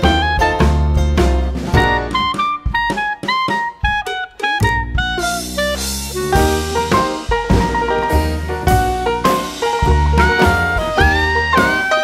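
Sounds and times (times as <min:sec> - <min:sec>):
drum hits: 0:00.0 - 0:12.0
sliding note melody: 0:01.7 - 0:12.0.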